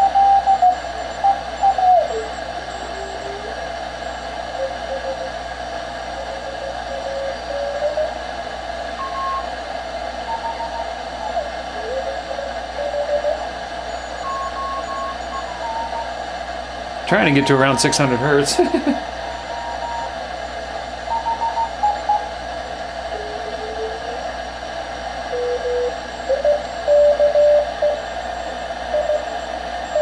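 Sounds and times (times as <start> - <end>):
morse code tones: 0.0 - 5.4, 9.0 - 9.5, 10.1 - 16.2, 17.1 - 24.4, 25.2 - 30.0
radio band hiss: 0.0 - 30.0.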